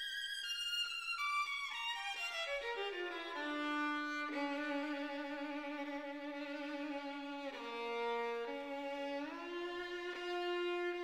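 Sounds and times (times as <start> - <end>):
slow violin melody: 0.0 - 11.0.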